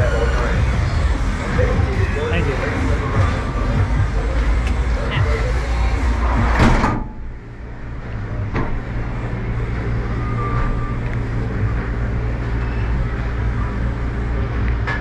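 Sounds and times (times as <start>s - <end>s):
low mechanical machinery hum: 0.0s - 15.0s.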